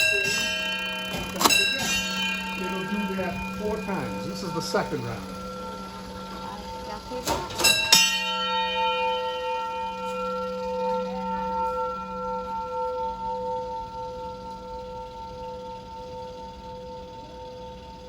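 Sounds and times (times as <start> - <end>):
fire alarm bell ringing: 0.0 - 18.0.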